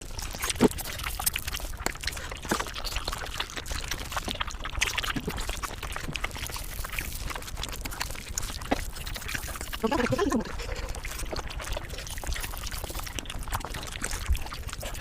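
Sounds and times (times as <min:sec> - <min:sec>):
sped up chewing sounds: 0:00.0 - 0:15.0.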